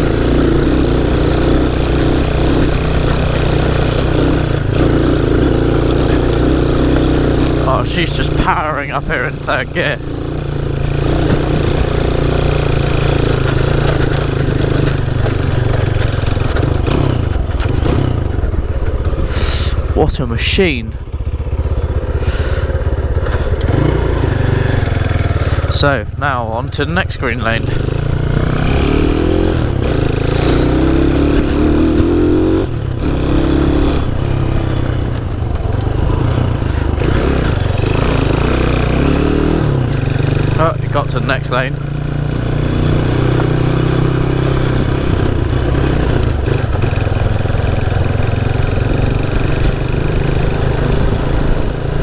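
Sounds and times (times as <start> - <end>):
sharp clicks and rattles: 0.0 - 20.4, 21.2 - 42.5, 43.8 - 52.0
motorcycle engine under load: 0.0 - 52.0.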